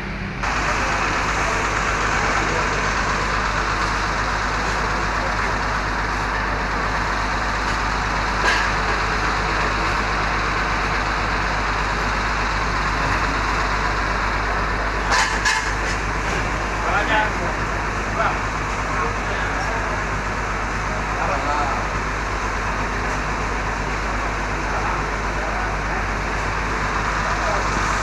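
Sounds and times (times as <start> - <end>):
bus diesel engine idling: 0.0 - 28.0.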